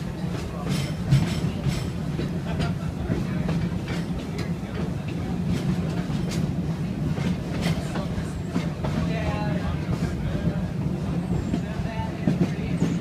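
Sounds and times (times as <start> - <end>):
train cars rumbling on track: 0.0 - 13.0
wheels clicking over rails: 0.0 - 13.0.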